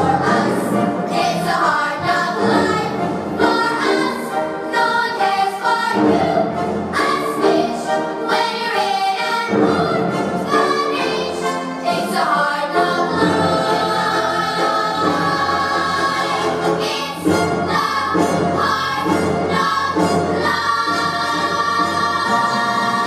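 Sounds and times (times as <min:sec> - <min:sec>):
children's chorus singing: 0:00.0 - 0:23.0
instrumental backing music: 0:00.0 - 0:23.0.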